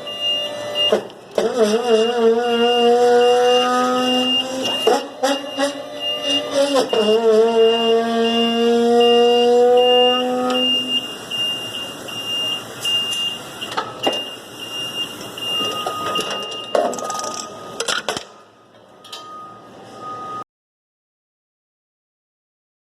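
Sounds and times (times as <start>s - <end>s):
high-pitched warning beeping: 0.0s - 17.8s, 18.8s - 20.4s.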